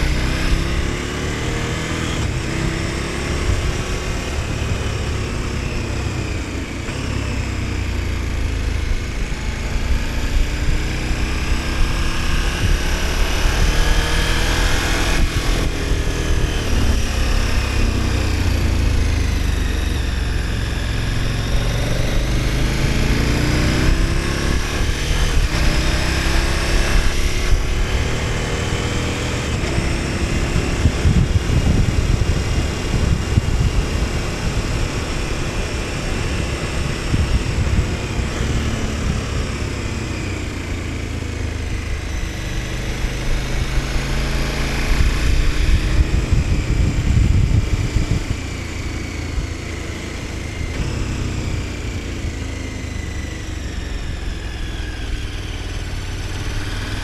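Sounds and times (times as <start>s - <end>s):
low wind rumble: 0.0s - 57.0s
motorcycle engine under way: 0.0s - 57.0s.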